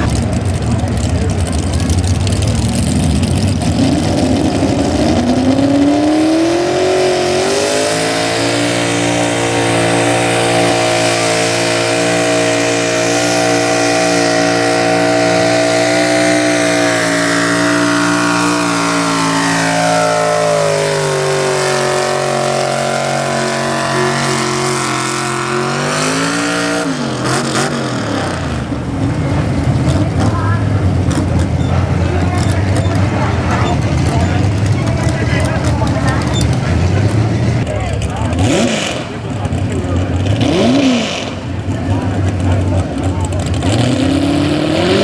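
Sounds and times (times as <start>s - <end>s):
pickup engine at full throttle: 0.0s - 45.0s.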